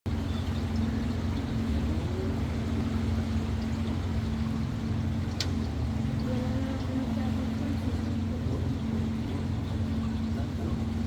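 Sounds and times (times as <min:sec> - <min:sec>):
boat motor humming: 0:00.1 - 0:11.0.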